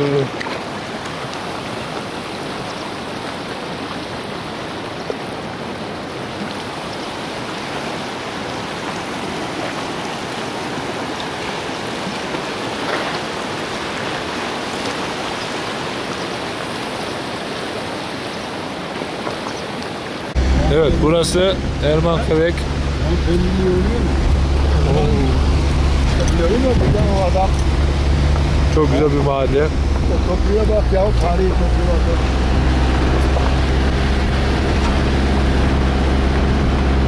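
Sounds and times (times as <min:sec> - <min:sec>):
river rushing over stones: 0:00.0 - 0:37.0.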